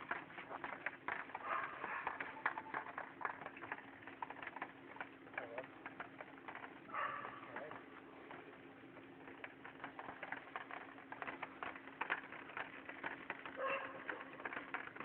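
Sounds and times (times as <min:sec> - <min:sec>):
faint ticking and pattering: 0:00.0 - 0:15.0.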